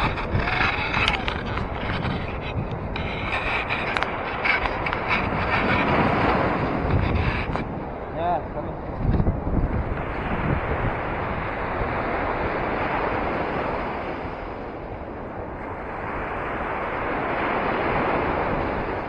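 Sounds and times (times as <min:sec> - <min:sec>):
sea waves washing ashore: 0:00.0 - 0:19.0
wind buffeting microphone: 0:00.0 - 0:19.0.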